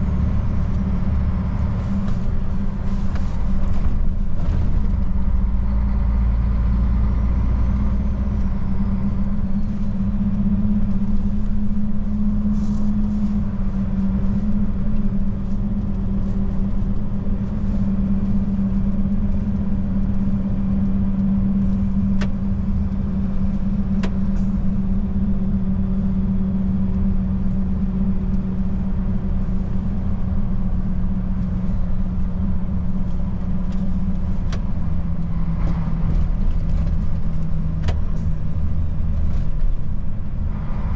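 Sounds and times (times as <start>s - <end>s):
diesel truck engine driving: 0.0s - 40.9s
road rumble: 0.0s - 40.9s.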